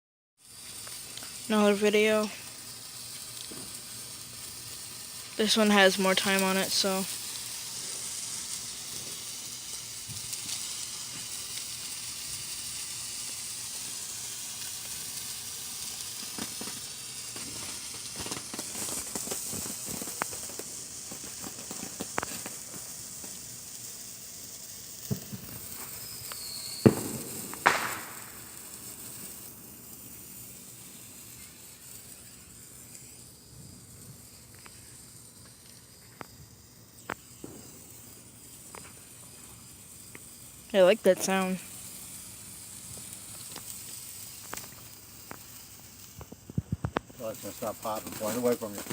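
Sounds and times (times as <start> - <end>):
firework fizzing hiss: 0.4 - 48.9
firework pops and cracks: 0.4 - 48.9.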